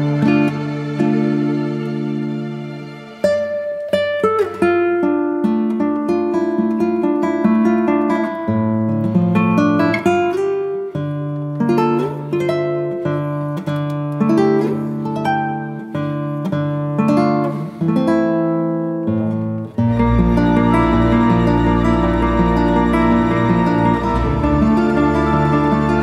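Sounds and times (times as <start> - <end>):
acoustic guitar melody: 0.0 - 26.0.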